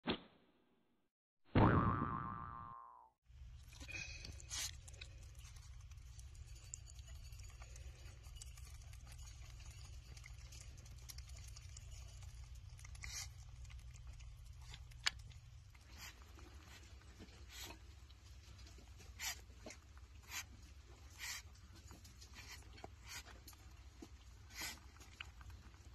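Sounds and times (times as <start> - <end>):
animal munching softly: 3.5 - 25.9.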